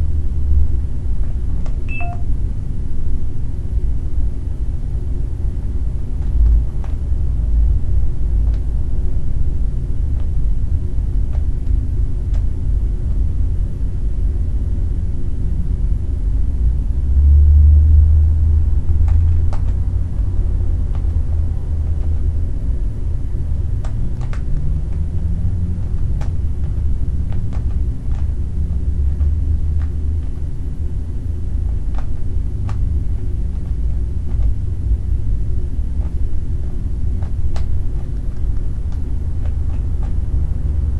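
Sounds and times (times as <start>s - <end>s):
low rumble: 4.3s - 40.9s.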